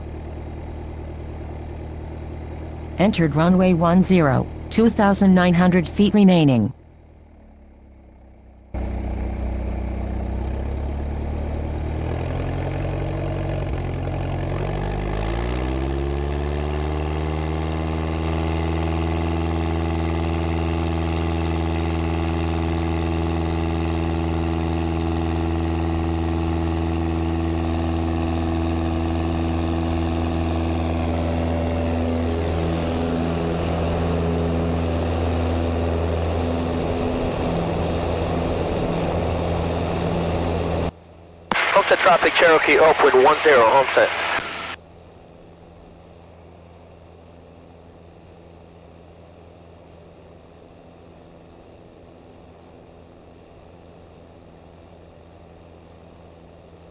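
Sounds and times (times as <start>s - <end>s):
airplane engine and propeller: 0.0s - 56.9s.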